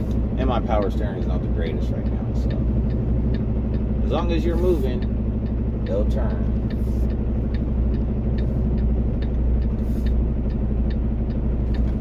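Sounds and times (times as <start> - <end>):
diesel truck engine running: 0.0 - 12.0
light ticking: 0.1 - 12.0.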